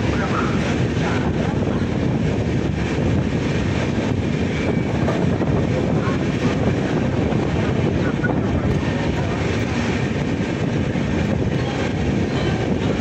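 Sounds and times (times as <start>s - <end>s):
rushing air: 0.0s - 13.0s
train rumbling at speed: 0.0s - 13.0s.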